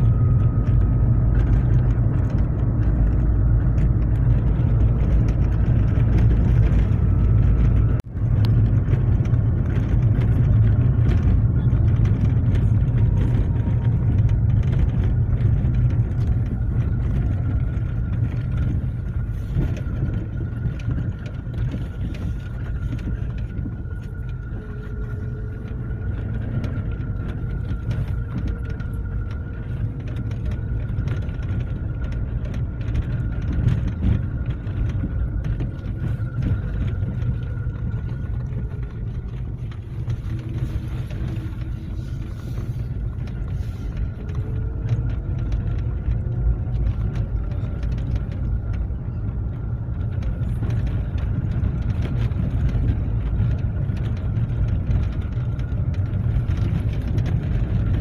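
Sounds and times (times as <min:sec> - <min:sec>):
engine and tyres rumbling: 0:00.0 - 0:58.0.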